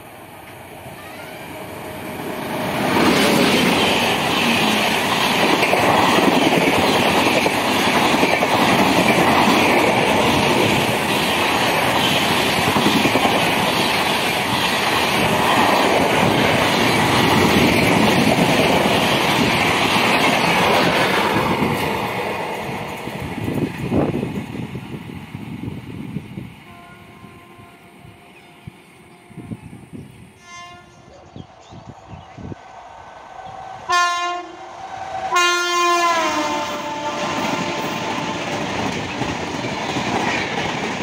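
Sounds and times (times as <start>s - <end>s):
train wheels rushing on rails: 0.0s - 30.4s, 31.4s - 41.0s
train clickety-clack over joints: 0.0s - 32.6s, 33.4s - 41.0s.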